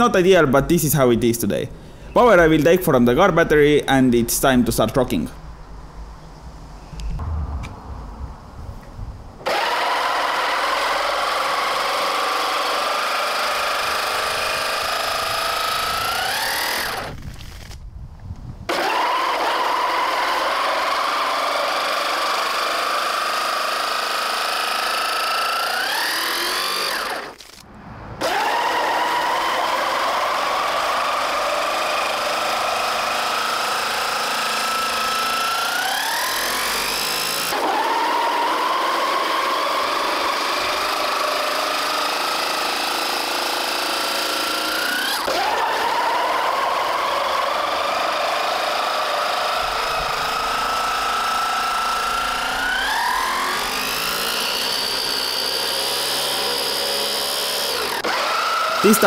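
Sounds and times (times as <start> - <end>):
motors whining: 9.4 - 17.8, 18.7 - 59.0.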